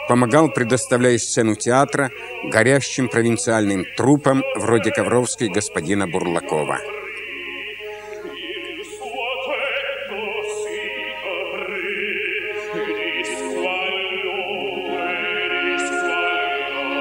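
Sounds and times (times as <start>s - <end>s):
operatic singing: 0.0s - 17.0s.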